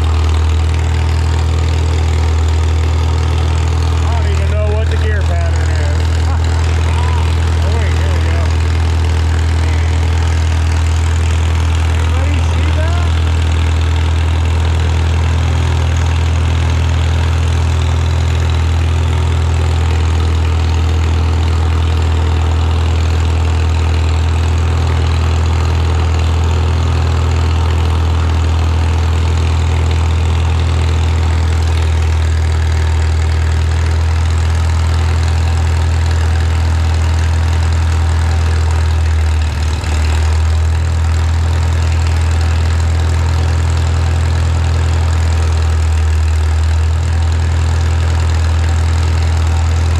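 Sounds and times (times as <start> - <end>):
tractor engine idling: 0.0 - 49.9.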